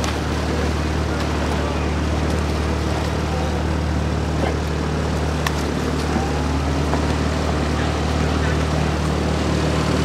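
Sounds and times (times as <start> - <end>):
motorboat engine running: 0.0 - 10.0
water and wind noise: 0.0 - 10.0.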